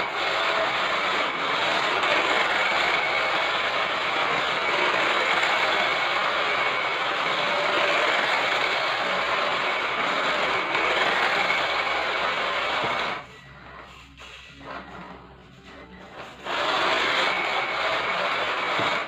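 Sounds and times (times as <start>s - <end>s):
electric motor whirring: 0.0s - 19.0s.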